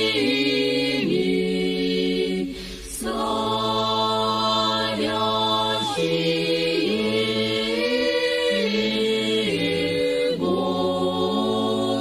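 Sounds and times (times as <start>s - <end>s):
choir chanting a cappella: 0.0s - 12.0s.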